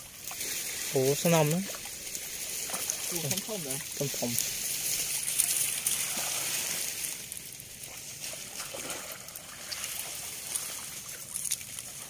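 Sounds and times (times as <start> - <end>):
muddy water sloshing and splashing: 0.0 - 12.0.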